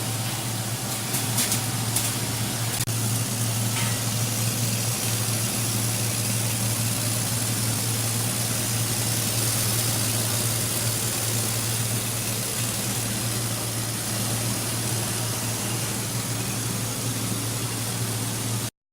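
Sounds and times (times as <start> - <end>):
pulping machine motor hum: 0.0 - 18.7.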